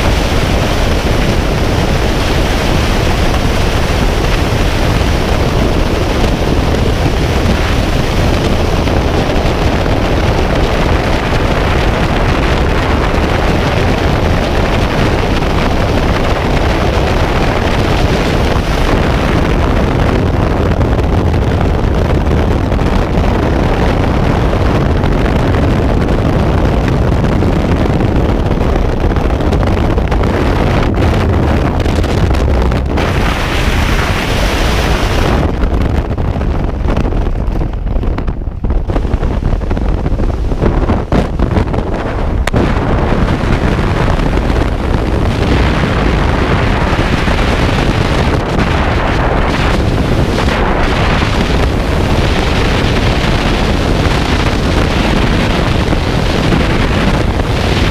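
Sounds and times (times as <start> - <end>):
freefall wind buffeting microphone: 0.0 - 57.9.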